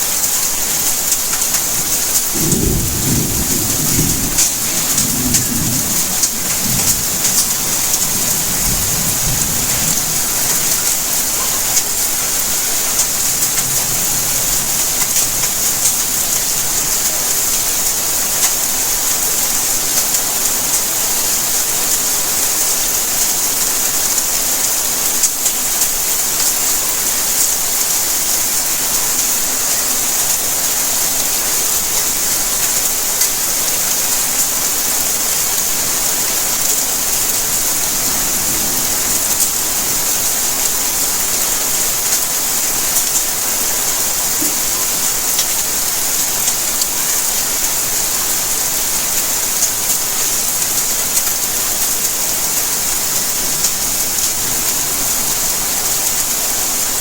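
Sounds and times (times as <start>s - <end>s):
raindrops ticking on hard surfaces: 0.0s - 57.0s
steady rainfall: 0.0s - 57.0s.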